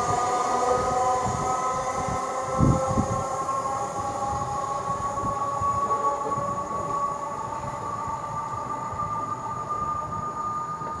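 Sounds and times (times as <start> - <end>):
train high whining tones: 0.0 - 11.0
train wheels rumbling: 0.0 - 11.0.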